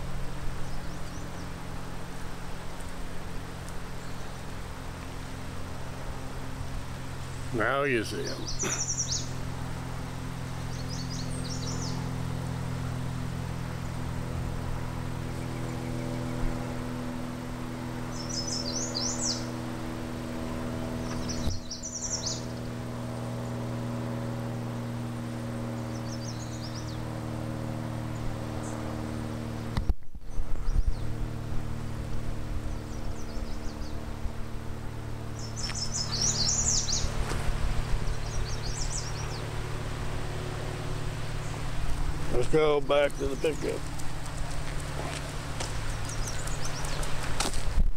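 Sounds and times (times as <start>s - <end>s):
small birds chirping: 0.0s - 47.6s
steady low hum: 0.0s - 47.9s.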